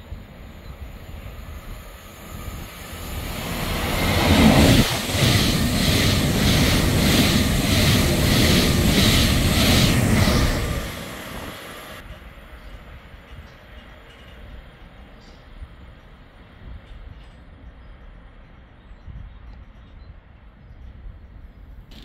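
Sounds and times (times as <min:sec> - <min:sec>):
train passing at speed: 0:00.0 - 0:18.6.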